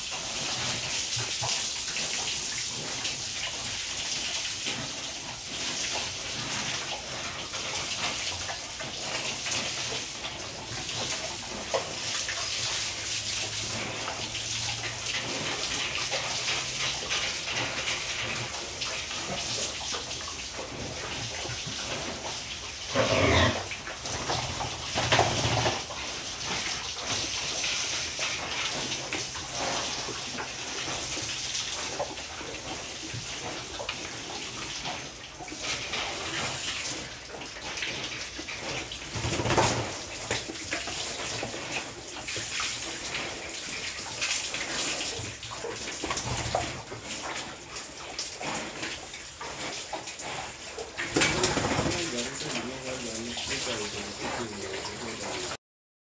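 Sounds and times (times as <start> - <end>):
water spraying from a hose: 0.0 - 55.6.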